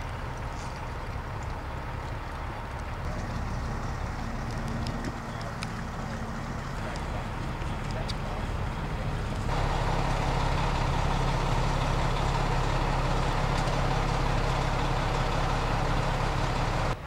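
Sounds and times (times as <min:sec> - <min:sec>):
fire engine idling: 0:00.0 - 0:17.0.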